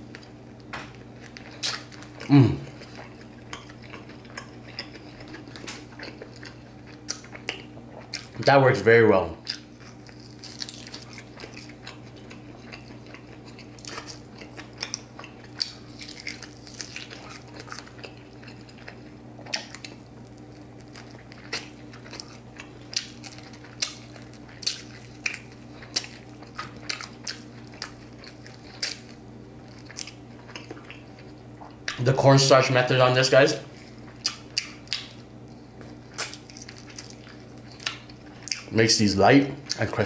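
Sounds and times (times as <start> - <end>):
chewing with wet mouth sounds: 0.0 - 8.5, 9.4 - 32.1, 33.7 - 38.9, 39.6 - 40.0.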